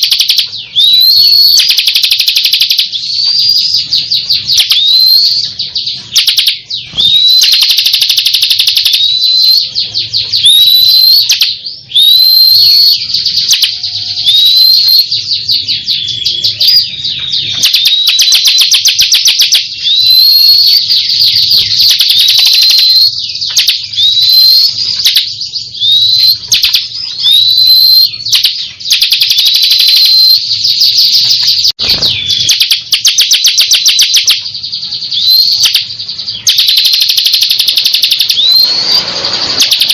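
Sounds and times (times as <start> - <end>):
bird singing rattling trills: 0.0 - 39.9
upswept whistled bird notes: 0.0 - 39.9.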